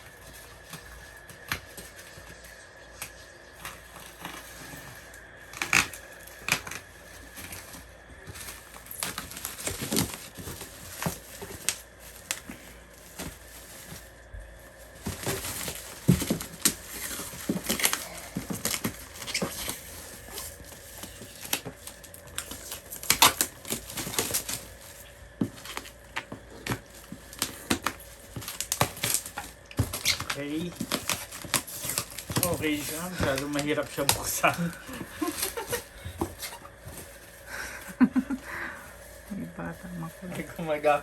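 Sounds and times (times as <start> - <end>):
packaging crinkling and rustling: 0.0 - 41.0.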